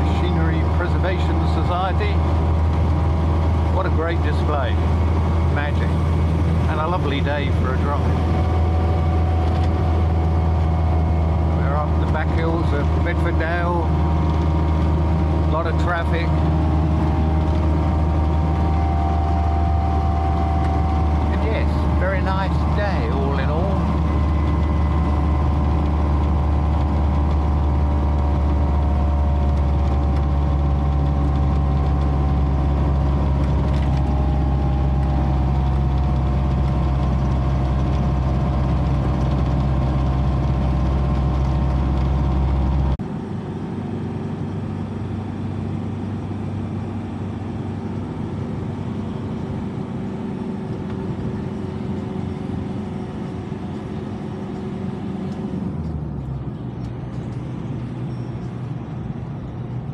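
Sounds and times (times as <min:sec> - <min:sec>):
engine and tyre noise: 0:00.0 - 0:59.9
vehicle engine and road noise: 0:00.0 - 0:59.9.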